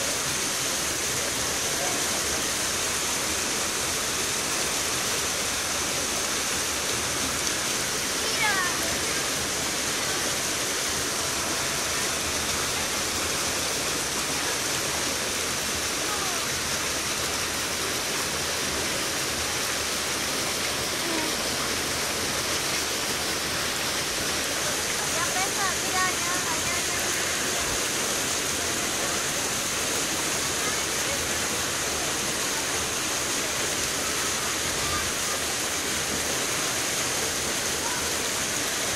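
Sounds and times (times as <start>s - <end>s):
water pouring and churning: 0.0s - 38.9s.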